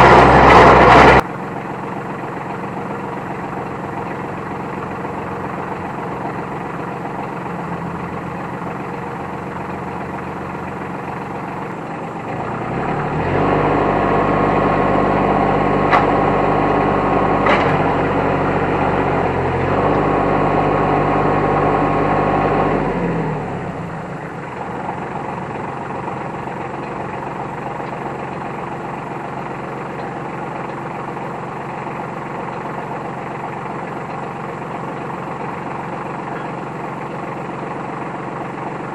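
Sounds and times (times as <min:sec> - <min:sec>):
tractor diesel engine revving: 0:00.0 - 0:38.9.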